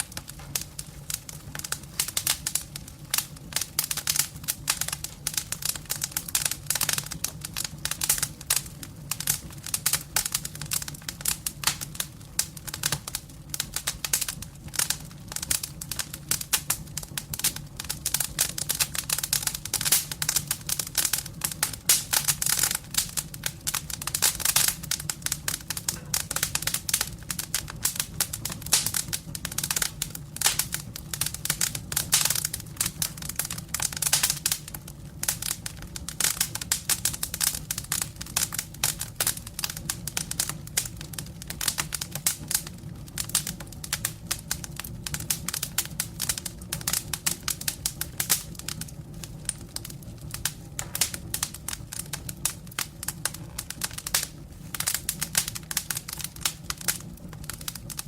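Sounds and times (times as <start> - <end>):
logs crackling in fireplace: 0.0 - 58.0.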